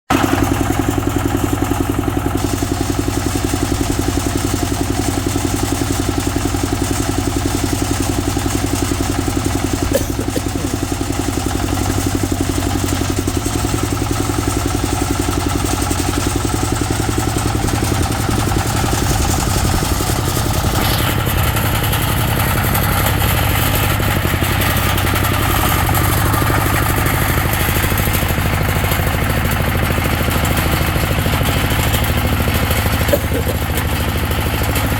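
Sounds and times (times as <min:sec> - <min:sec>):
tractor engine running: 0:00.1 - 0:34.9.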